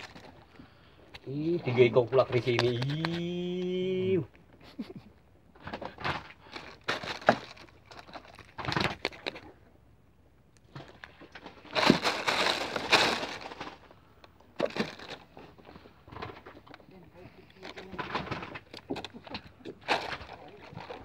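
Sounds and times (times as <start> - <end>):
crackling and rustling handling noise: 0.0 - 9.8, 10.6 - 21.0.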